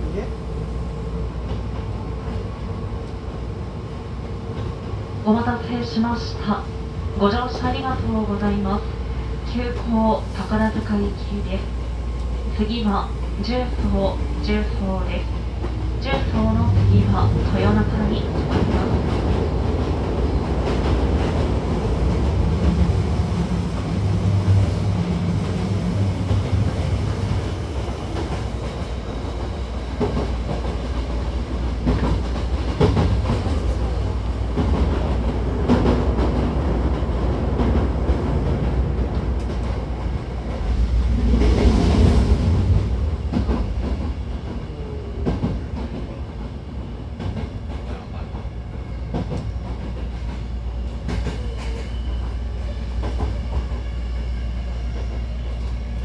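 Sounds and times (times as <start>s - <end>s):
train wheels rumbling on track: 0.0s - 56.0s
rail joint clicks: 4.5s - 5.0s, 9.5s - 56.0s.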